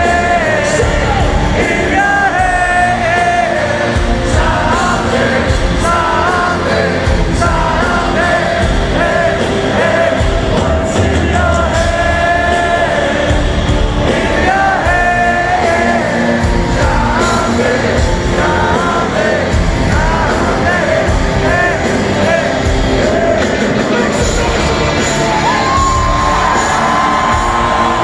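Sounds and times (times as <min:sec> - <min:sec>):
lead singer singing: 0:00.0 - 0:28.0
live heavy metal band: 0:00.0 - 0:28.0.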